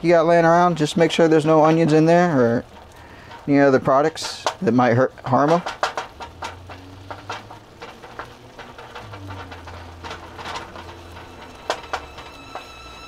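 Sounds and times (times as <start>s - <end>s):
food sizzling in a frying pan: 0.0s - 13.0s
wooden spoon scraping a pan: 0.7s - 13.0s.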